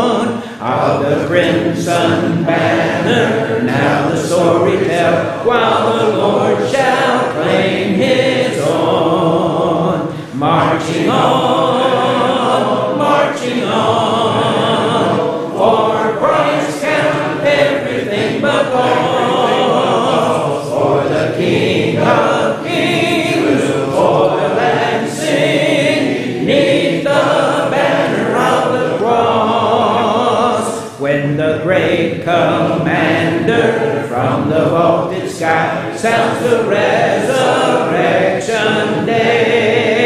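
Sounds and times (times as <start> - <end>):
congregation singing a hymn: 0.0 - 40.0.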